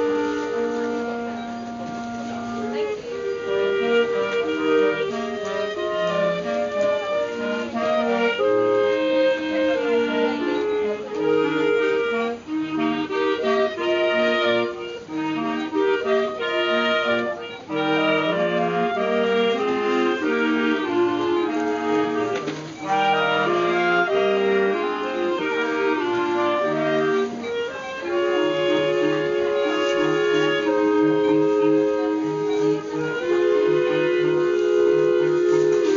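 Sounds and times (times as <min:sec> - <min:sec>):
clarinet choir playing: 0:00.0 - 0:35.9.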